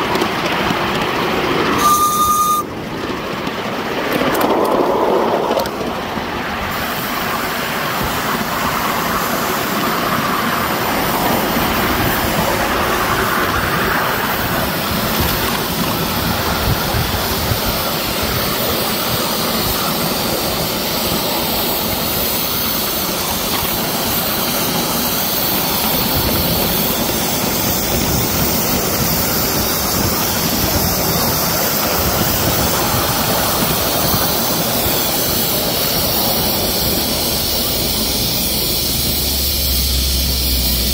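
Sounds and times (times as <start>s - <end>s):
steam locomotive rushing steam: 0.0s - 40.9s
wheels on rails: 0.0s - 40.9s.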